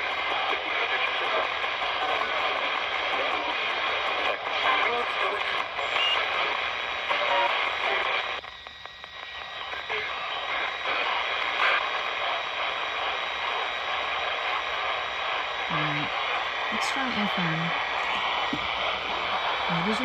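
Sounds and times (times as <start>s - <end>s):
chopped broadcast voice fragments: 0.0s - 8.4s, 9.2s - 20.0s
radio static hiss: 0.0s - 20.0s.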